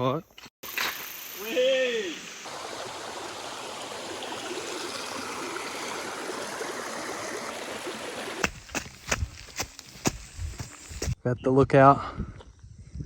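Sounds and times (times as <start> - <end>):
stream water flowing: 0.6 - 11.2.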